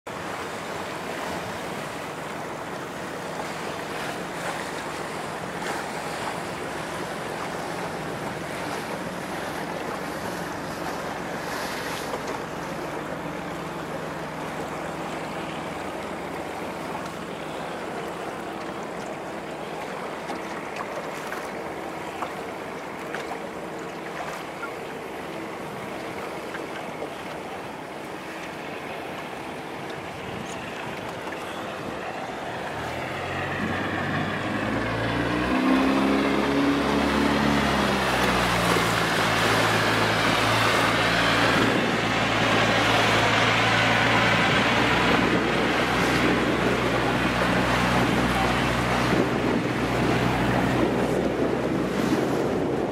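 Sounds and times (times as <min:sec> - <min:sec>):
wind: 0:00.0 - 0:52.9
water rushing: 0:00.1 - 0:52.9.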